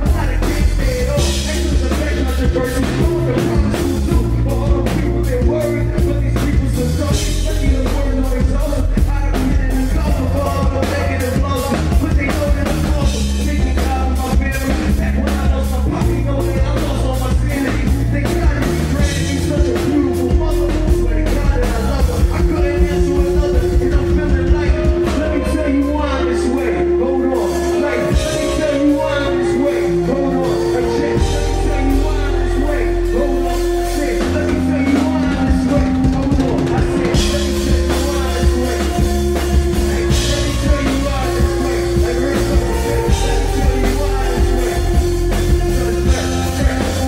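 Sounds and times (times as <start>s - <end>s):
bass guitar held notes: 0.0s - 47.0s
drum kit beat: 0.0s - 47.0s
electric guitar: 0.0s - 47.0s.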